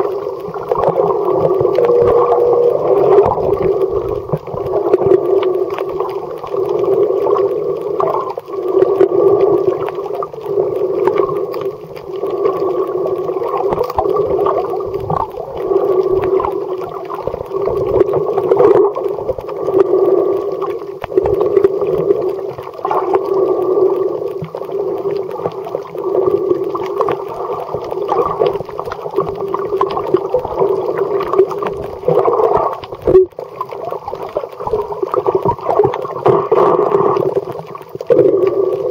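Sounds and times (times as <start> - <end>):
muffled underwater water rush: 0.0 - 38.9.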